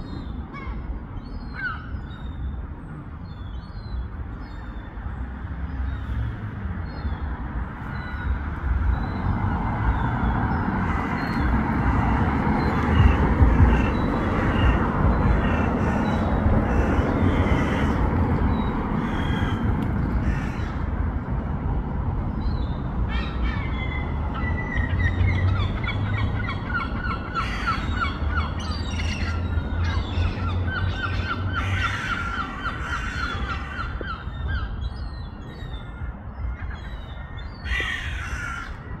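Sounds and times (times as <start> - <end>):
street traffic rumble: 0.0 - 39.0
harsh bird calls: 5.8 - 20.9, 22.5 - 39.0.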